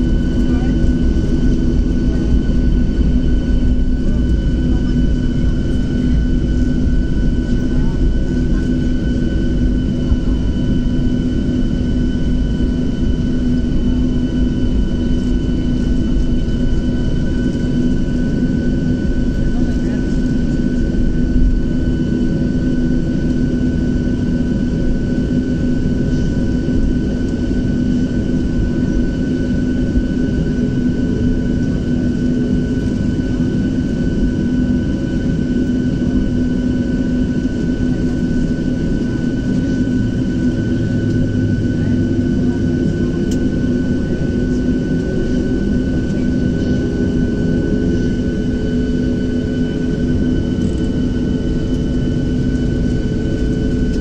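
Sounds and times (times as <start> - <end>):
jet engines idling hum and whine: 0.0 - 54.0.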